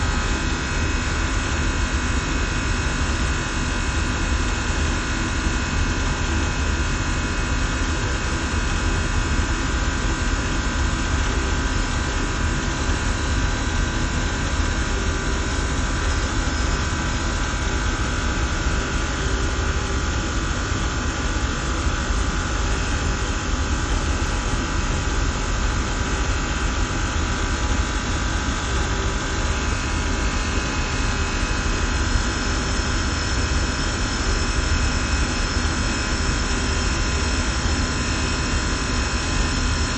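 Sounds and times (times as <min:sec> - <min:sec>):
deep machinery hum: 0:00.0 - 0:39.9.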